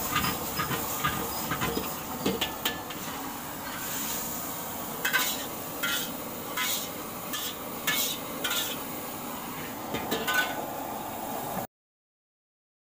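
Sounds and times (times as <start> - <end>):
wok and spatula clanking: 0.0 - 10.8
burner hiss: 0.0 - 11.7
frying sizzle: 0.0 - 11.7.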